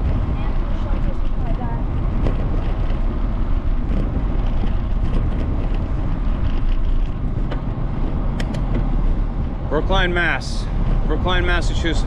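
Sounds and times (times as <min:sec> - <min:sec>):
bicycle tyres rolling on pavement: 0:00.0 - 0:12.0
wind buffeting microphone: 0:00.0 - 0:12.0.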